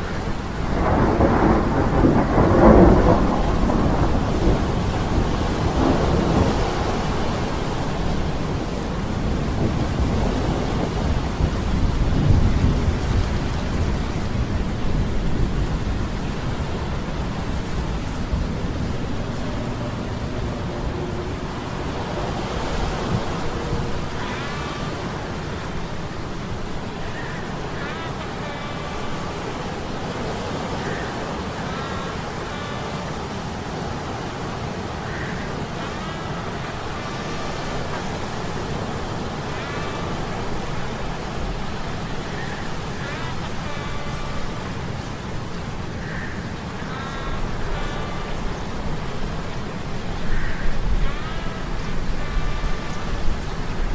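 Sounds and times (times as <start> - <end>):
stormy sea rumbling: 0.0 - 53.9
surf and wind: 0.0 - 53.9.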